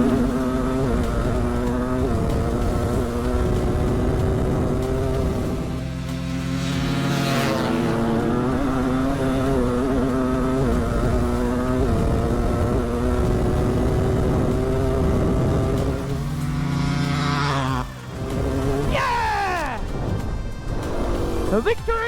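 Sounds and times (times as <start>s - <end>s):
dirt bike engine at full throttle: 0.0s - 22.0s.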